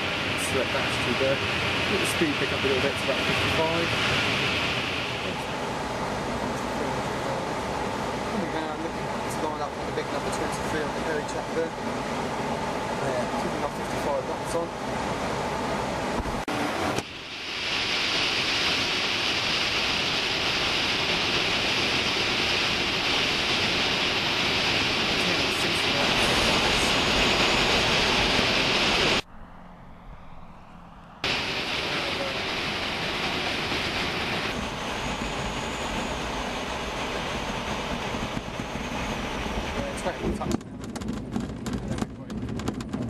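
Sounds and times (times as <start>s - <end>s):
air rushing past cockpit canopy: 0.0s - 43.0s.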